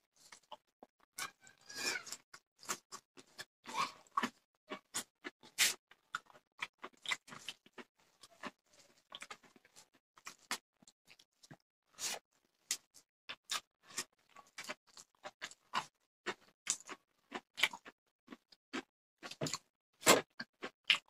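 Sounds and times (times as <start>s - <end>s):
wet chewing and smacking: 2.0s - 11.6s, 12.6s - 21.0s.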